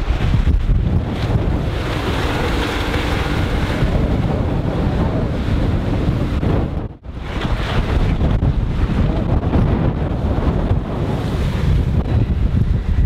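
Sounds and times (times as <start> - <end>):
boat engine hum: 0.0 - 13.0
rush of water: 0.0 - 13.0
wind buffeting microphone: 0.0 - 13.0.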